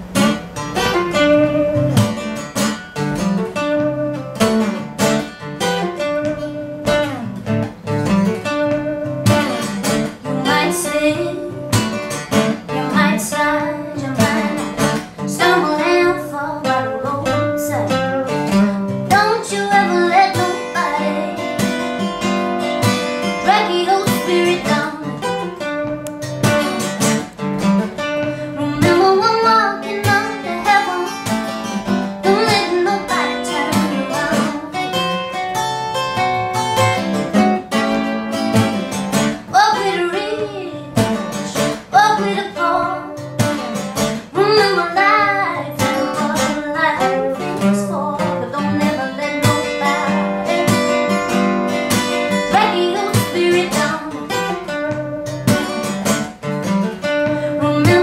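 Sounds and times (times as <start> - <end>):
acoustic guitars picked and strummed: 0.0 - 58.0.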